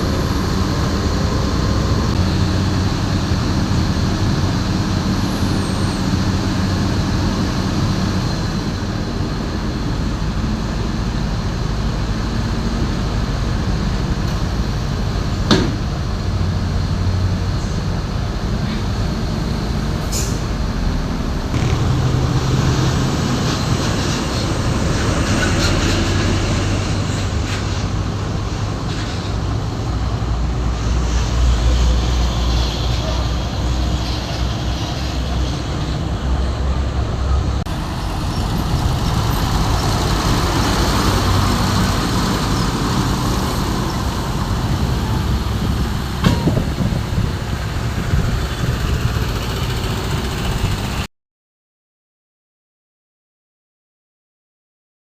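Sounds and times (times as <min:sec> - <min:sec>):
diesel engine drone: 0:00.0 - 0:51.1
road traffic noise: 0:00.0 - 0:51.1.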